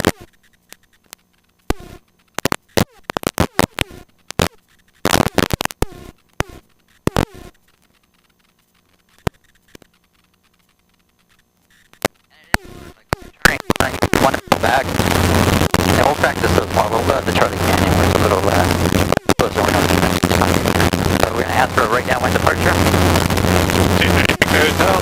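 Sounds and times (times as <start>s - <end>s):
radio crackles and pops: 0.0s - 25.0s.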